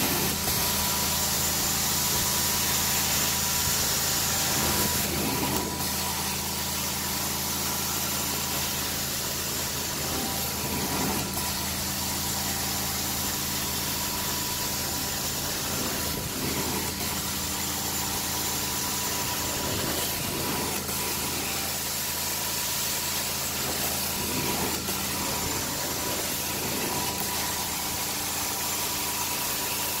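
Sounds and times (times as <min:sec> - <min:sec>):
vacuum machine drone: 0:00.0 - 0:22.4, 0:23.0 - 0:29.8.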